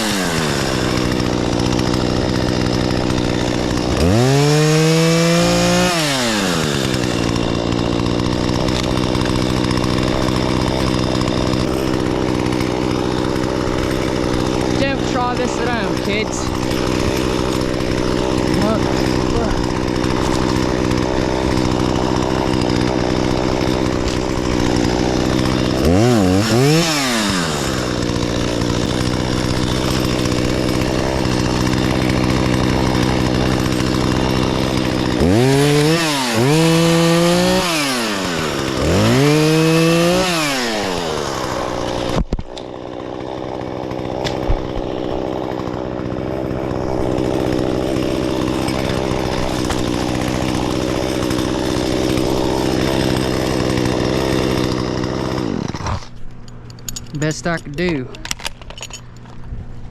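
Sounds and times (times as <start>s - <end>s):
chainsaw idling and revving: 0.0s - 59.2s.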